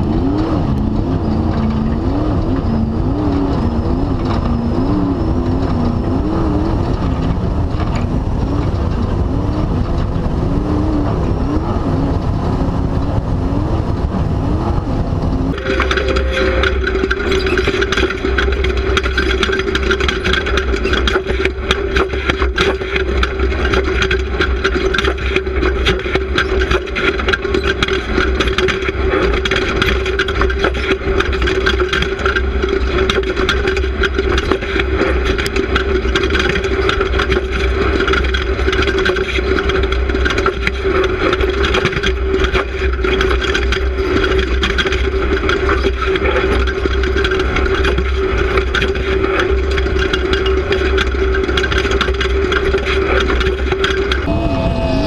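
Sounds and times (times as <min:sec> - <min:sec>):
car rattling and clattering: 0:00.0 - 0:54.3
race car engine running: 0:00.0 - 0:55.0.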